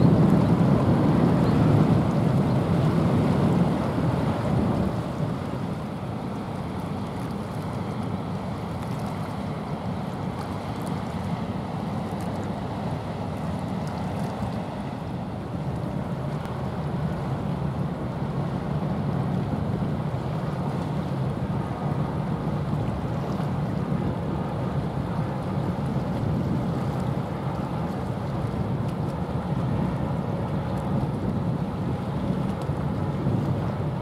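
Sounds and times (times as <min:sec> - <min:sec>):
choppy sea: 0:00.0 - 0:34.0
wind rumbling on microphone: 0:00.0 - 0:34.0.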